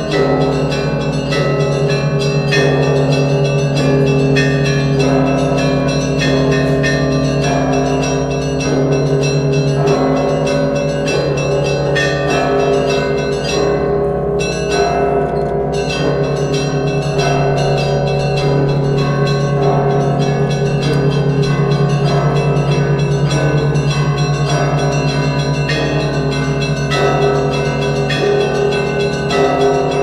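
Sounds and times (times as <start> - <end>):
large church bells ringing: 0.0 - 30.0
small church bells ringing: 0.0 - 30.0.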